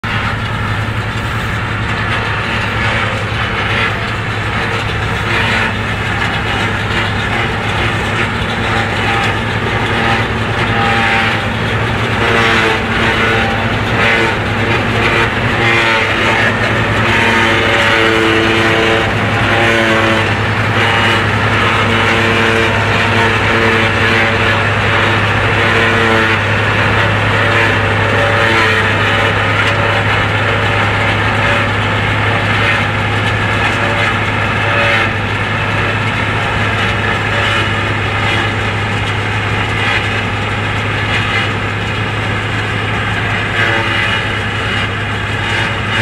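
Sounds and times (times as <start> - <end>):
forage harvester engine and machinery: 0.0 - 46.0.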